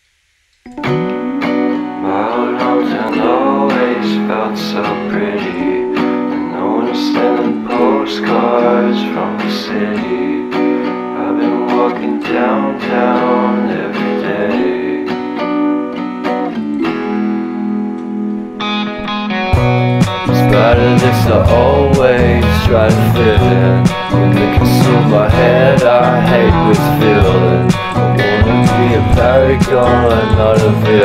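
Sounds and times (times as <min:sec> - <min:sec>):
strummed guitar music: 0:00.7 - 0:31.0.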